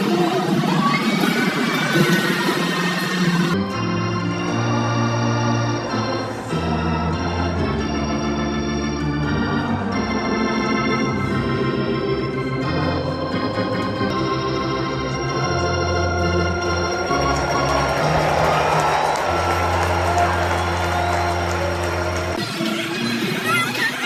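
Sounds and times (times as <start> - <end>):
organ playing held chords: 2.2 - 23.4.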